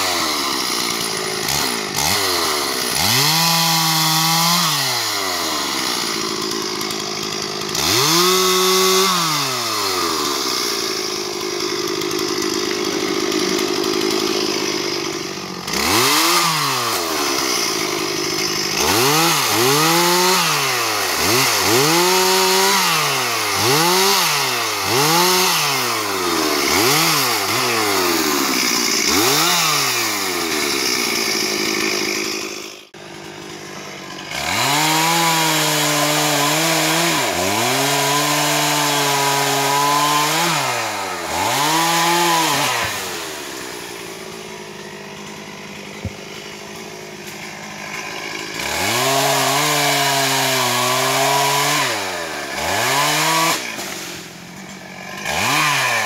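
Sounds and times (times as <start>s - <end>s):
chainsaw revving and cutting wood: 0.0s - 56.0s.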